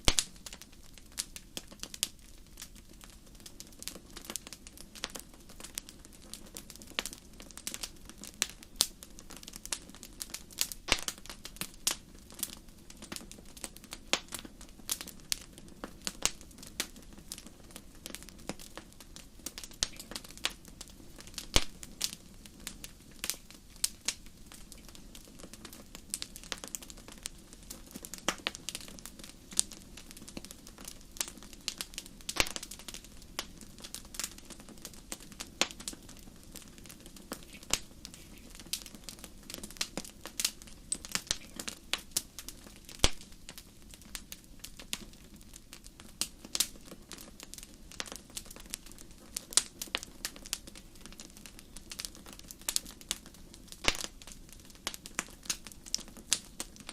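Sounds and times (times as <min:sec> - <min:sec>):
low rumble of flames: 0:00.0 - 0:56.9
sharp pops from burning firewood: 0:00.0 - 0:56.9
wood fire crackling: 0:00.0 - 0:56.9.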